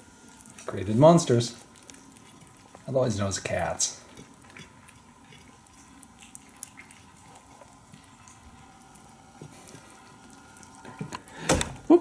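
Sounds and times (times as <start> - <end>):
kittens eating and lapping: 0.0 - 12.0.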